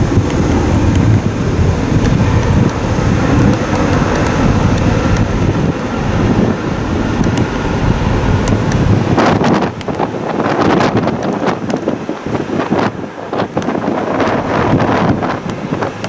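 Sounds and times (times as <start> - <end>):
jet engine rumble: 0.0 - 16.0
wind buffeting microphone: 0.0 - 16.0.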